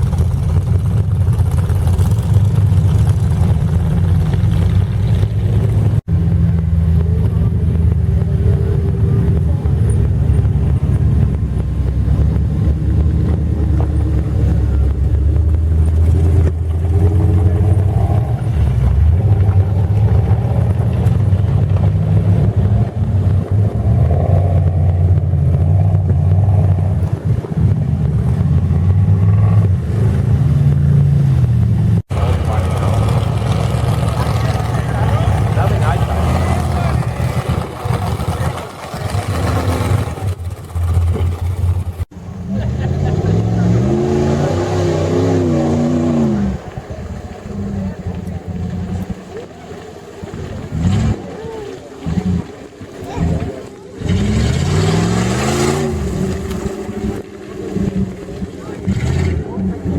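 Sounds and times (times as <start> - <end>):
truck engines running under load: 0.0 - 59.9.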